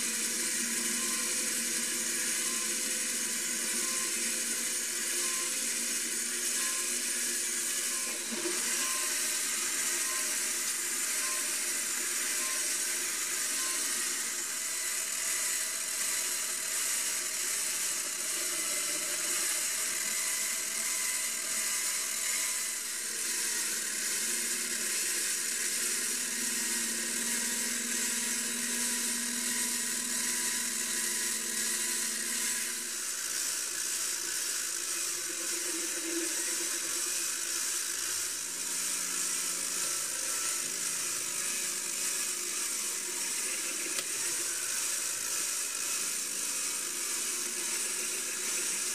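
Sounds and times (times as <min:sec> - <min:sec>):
metal lathe whirring: 0:00.0 - 0:48.9.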